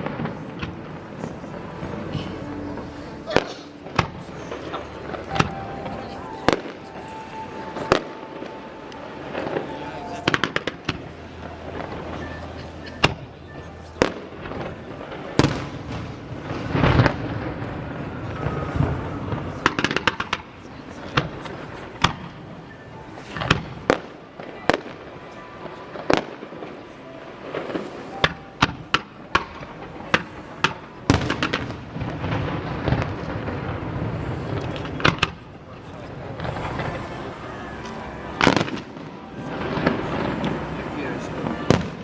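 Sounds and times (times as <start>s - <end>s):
fireworks bangs: 0.0s - 42.0s
fireworks crackling: 0.0s - 42.0s.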